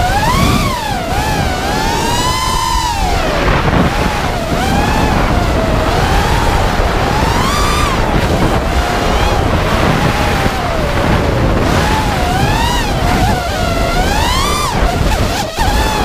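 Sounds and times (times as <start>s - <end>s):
drone motors whining: 0.0s - 16.0s
wind rush on microphone: 0.0s - 16.0s.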